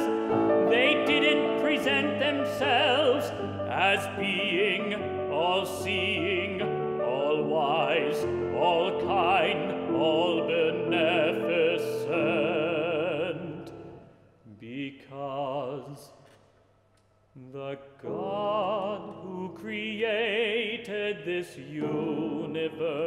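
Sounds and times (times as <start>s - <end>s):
grand piano accompaniment: 0.0s - 14.1s, 17.9s - 23.0s
man singing opera: 0.0s - 16.2s, 17.4s - 23.0s.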